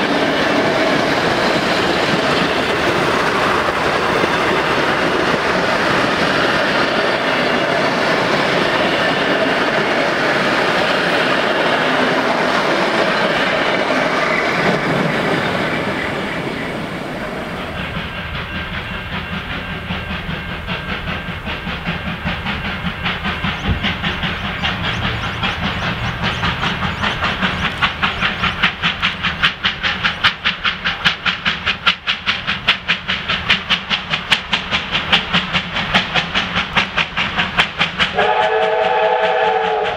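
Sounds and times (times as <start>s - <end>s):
steam locomotive exhaust chuffing: 0.0s - 39.9s
train wheels clattering over rail joints: 0.0s - 39.9s.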